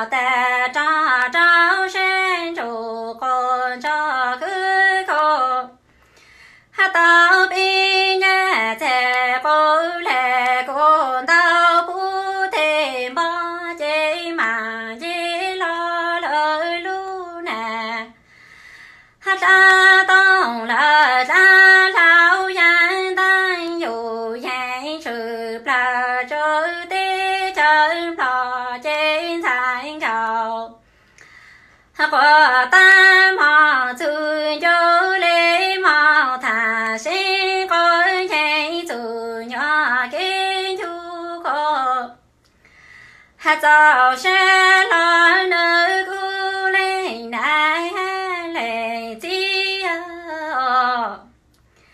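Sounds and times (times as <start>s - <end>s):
woman singing unaccompanied: 0.0s - 5.8s, 6.7s - 18.2s, 19.2s - 30.8s, 31.9s - 42.2s, 43.4s - 51.4s.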